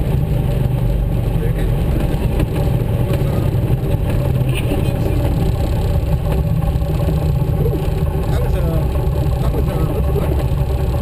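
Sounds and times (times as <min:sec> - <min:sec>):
propeller plane engine in cockpit: 0:00.0 - 0:11.0.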